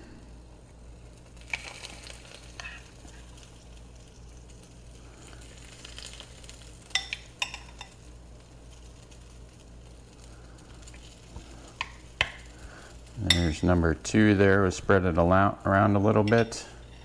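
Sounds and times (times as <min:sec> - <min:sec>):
batter sizzling faintly: 0:00.0 - 0:17.0.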